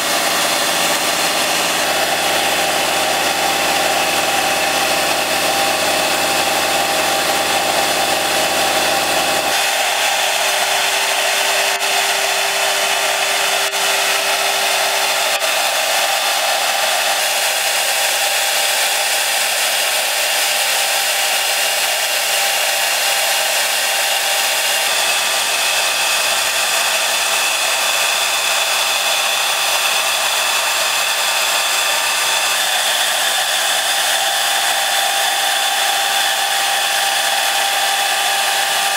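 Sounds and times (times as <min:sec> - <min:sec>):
router spindle high-pitched whine: 0:00.0 - 0:38.9.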